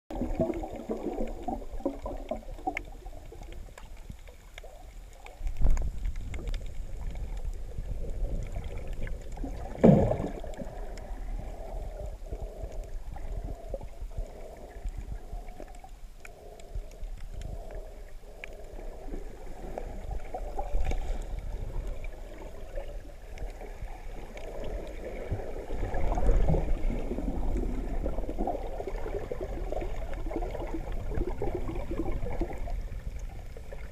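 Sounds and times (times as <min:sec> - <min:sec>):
underwater gurgling and sloshing: 0:00.1 - 0:33.9.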